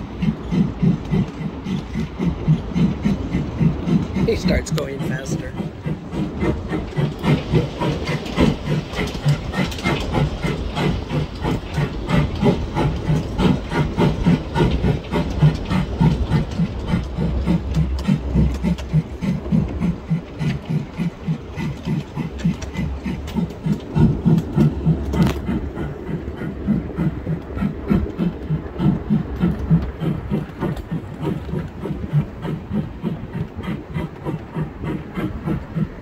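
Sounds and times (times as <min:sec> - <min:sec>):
steam locomotive chuffing: 0:00.0 - 0:36.0
train rumbling on rails: 0:00.0 - 0:36.0.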